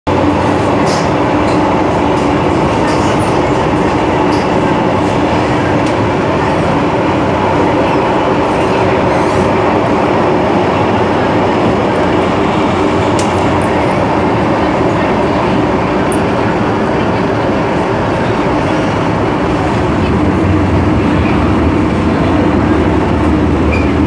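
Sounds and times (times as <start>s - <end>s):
wheels roaring on rail: 0.1s - 24.0s.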